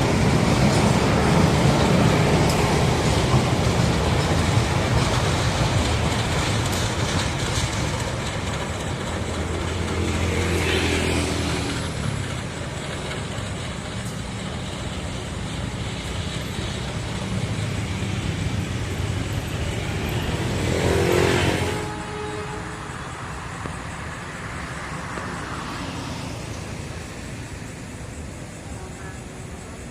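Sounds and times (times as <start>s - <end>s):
motor vehicles running: 0.0s - 28.6s
vehicles passing close by: 0.0s - 29.9s.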